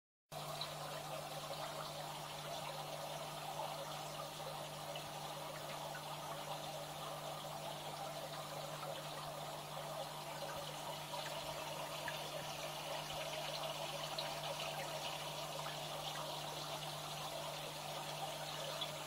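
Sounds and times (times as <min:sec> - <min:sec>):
low steady hum: 0:00.3 - 0:19.0
water trickling in aquarium: 0:00.3 - 0:19.0.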